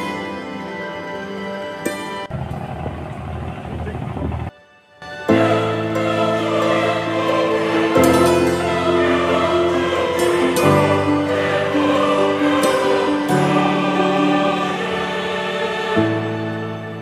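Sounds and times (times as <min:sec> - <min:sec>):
slow sustained chords: 0:00.0 - 0:17.0.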